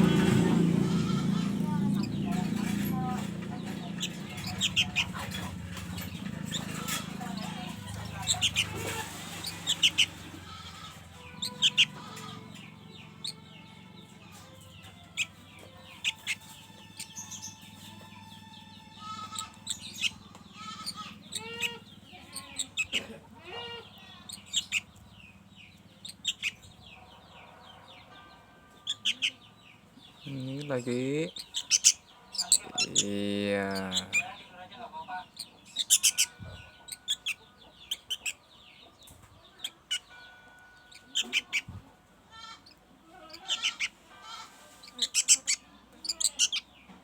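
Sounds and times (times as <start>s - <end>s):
bird chirping: 0.0s - 41.8s, 42.5s - 47.0s.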